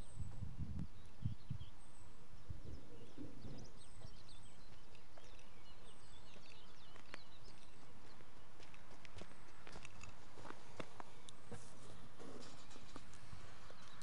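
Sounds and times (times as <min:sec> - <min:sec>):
songbirds chirping: 0:00.0 - 0:14.0
steady outdoor hiss: 0:00.0 - 0:14.0.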